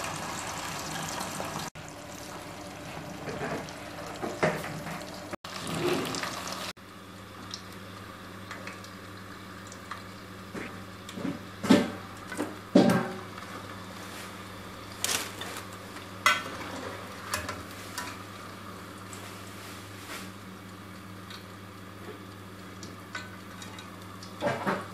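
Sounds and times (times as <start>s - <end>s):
fries sizzling in hot oil: 0.0s - 24.9s.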